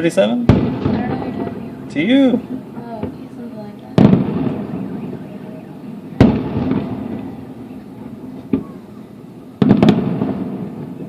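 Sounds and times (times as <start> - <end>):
echoing rumble: 0.0 - 11.0
firework crack: 0.0 - 11.0
fireworks booming: 0.0 - 11.0.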